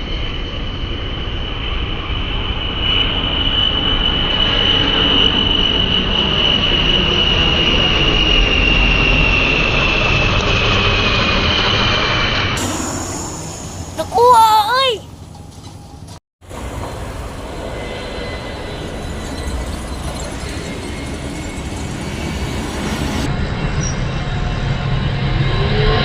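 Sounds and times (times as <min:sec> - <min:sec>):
airliner engines whining: 0:00.0 - 0:14.2, 0:15.0 - 0:26.0.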